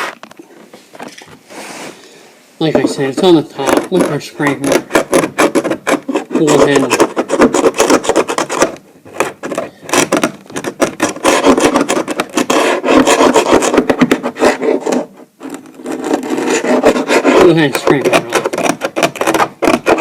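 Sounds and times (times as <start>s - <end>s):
scraper rasping on wooden floor: 1.5s - 20.0s.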